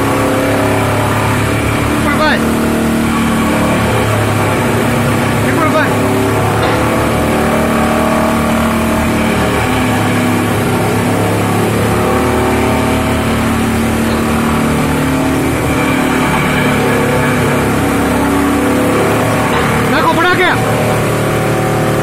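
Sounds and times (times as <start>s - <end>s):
chaff cutter chopping fodder: 0.0s - 22.0s
diesel tractor engine running: 0.0s - 22.0s.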